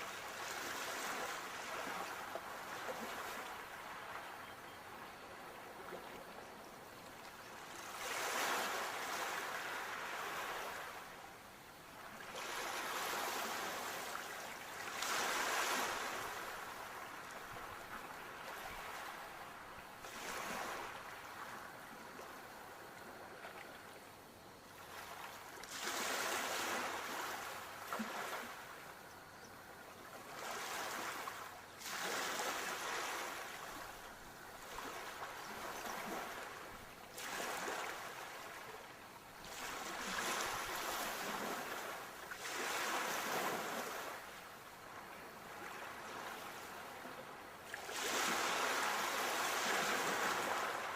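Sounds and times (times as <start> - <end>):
sea waves breaking on shore: 0.0 - 4.3, 7.1 - 11.2, 12.0 - 23.9, 24.8 - 29.0, 30.1 - 50.9.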